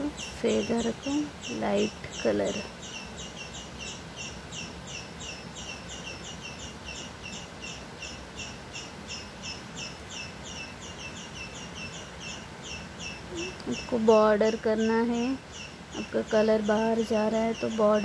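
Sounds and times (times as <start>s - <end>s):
small bird chirping: 0.0s - 18.0s.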